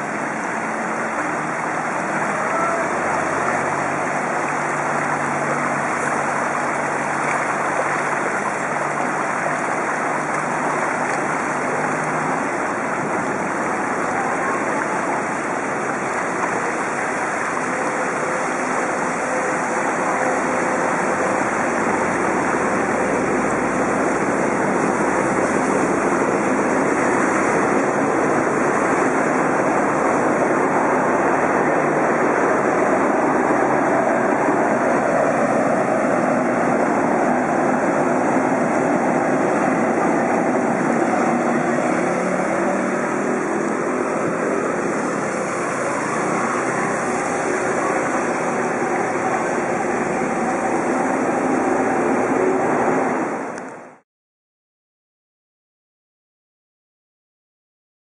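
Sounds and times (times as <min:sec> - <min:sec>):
bus engine rumble: 0:00.0 - 0:54.0
wind buffeting microphone: 0:03.0 - 0:53.7.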